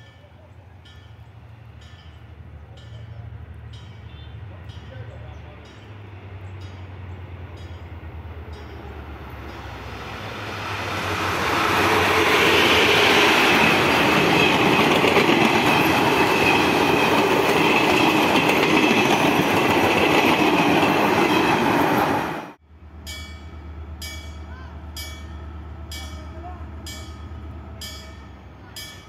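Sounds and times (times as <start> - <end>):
locomotive engine drone: 0.0 - 29.0
train wheels on rails: 0.0 - 29.0.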